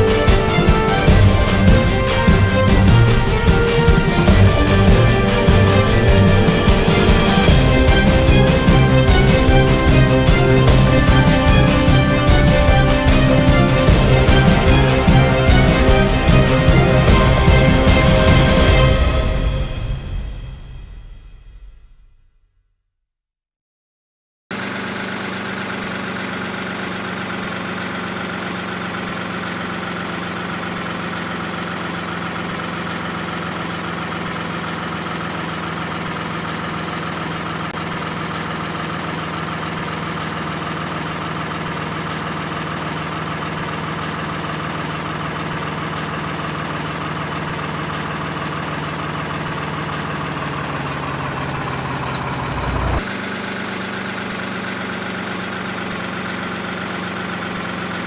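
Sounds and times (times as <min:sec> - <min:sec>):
engine idling hum: 0:00.0 - 0:21.8, 0:24.5 - 0:58.0.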